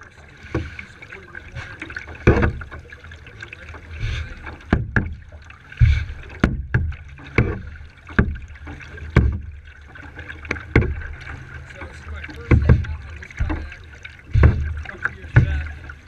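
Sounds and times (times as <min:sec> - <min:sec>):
paddle knocks and splashes: 0:00.0 - 0:16.0.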